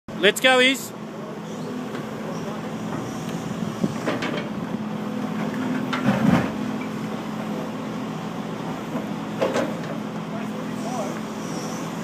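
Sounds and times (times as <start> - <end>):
excavator diesel engine: 0.1 - 12.0.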